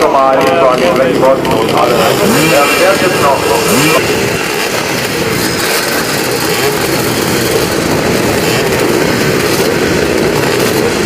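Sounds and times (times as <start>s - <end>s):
motocross motorcycles revving: 0.0s - 11.0s.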